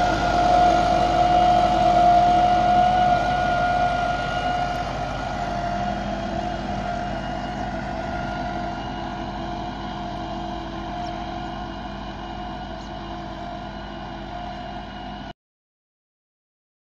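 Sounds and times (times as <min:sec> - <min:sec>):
tractor diesel engine running: 0:00.0 - 0:15.3.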